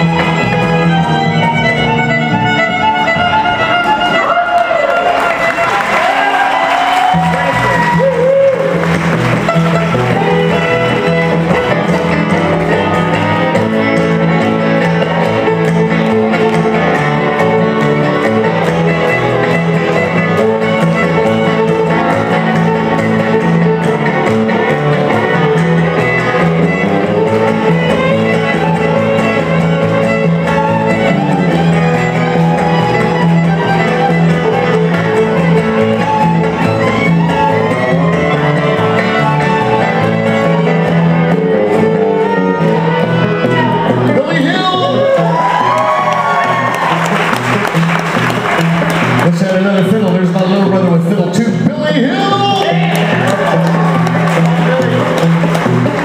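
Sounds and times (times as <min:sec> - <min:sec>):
electric guitar: 0:00.0 - 0:56.0
fiddle playing lead: 0:00.0 - 0:56.0
upright bass: 0:00.0 - 0:56.0.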